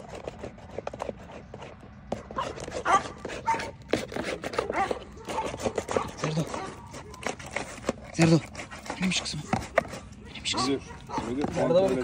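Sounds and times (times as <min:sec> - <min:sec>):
small clicks and scuffs: 0:00.0 - 0:12.0.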